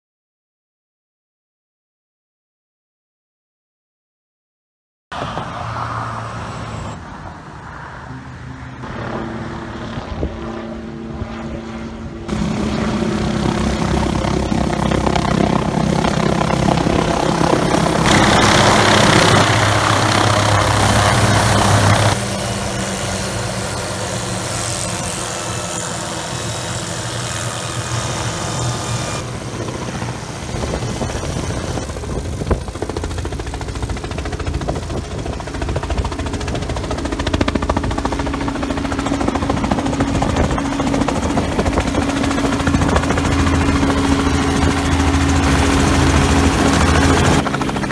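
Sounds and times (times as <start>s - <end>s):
helicopter rotor and engine noise: 5.2s - 47.9s.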